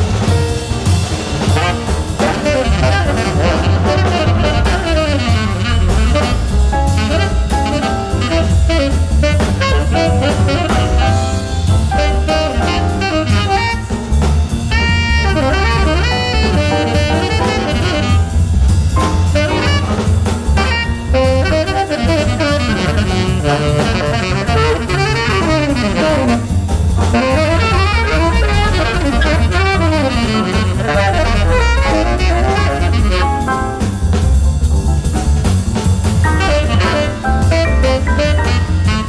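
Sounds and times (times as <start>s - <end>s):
double bass: 0.0s - 39.0s
drum kit: 0.0s - 39.0s
piano: 0.0s - 39.0s
tenor saxophone: 1.4s - 34.0s, 36.2s - 39.0s.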